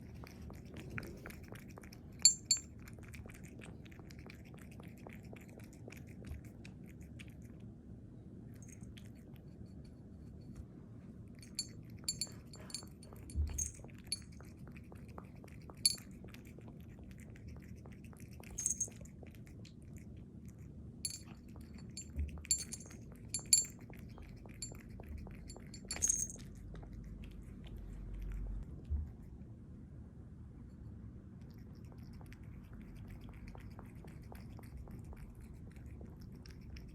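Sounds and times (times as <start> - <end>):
cat chewing: 0.0 - 10.4, 11.1 - 29.5, 30.7 - 36.9.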